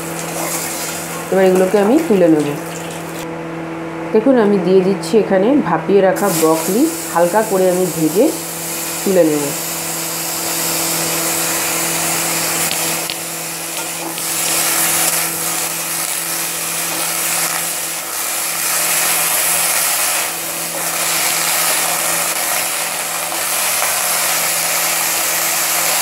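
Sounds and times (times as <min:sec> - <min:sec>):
vegetables sizzling in hot oil: 0:00.0 - 0:03.2, 0:06.2 - 0:26.0.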